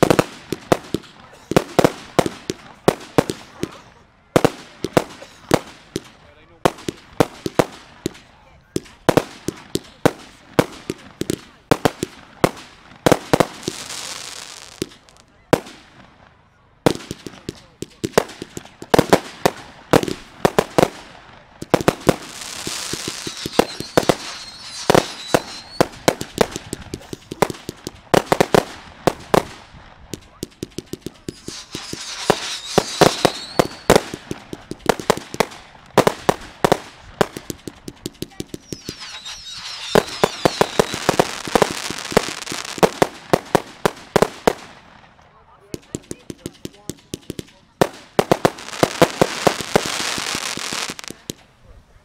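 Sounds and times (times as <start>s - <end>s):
fireworks sharp bangs: 0.0s - 51.5s
fireworks crackling hiss: 0.0s - 52.0s.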